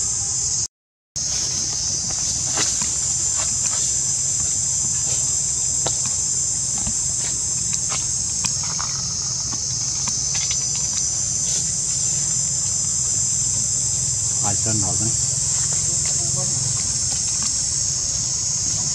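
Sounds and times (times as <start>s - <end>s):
high-pitched insect chorus: 0.0s - 18.9s.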